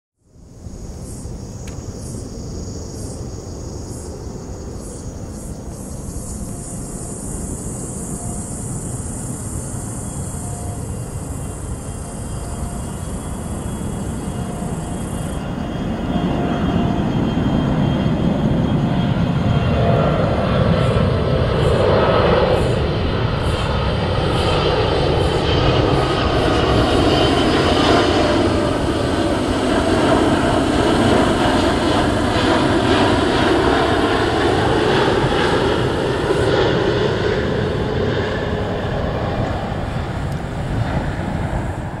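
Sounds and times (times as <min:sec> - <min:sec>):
jet engine roar: 0:00.3 - 0:42.0.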